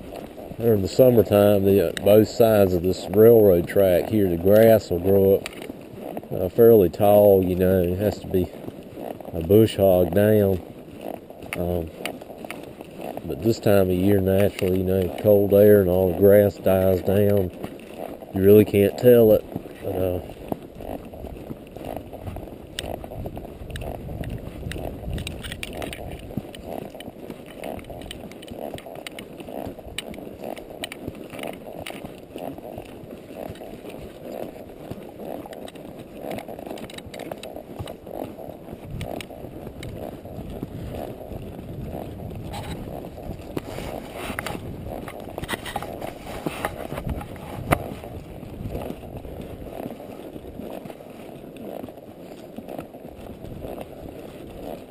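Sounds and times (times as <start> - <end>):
hooves crunching on ground: 0.0 - 54.9.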